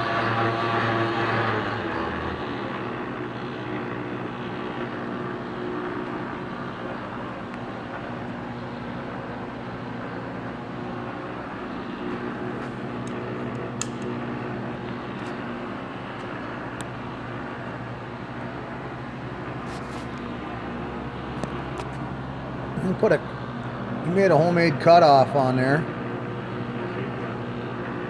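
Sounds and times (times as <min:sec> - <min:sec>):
lathe humming: 0:00.0 - 0:28.0.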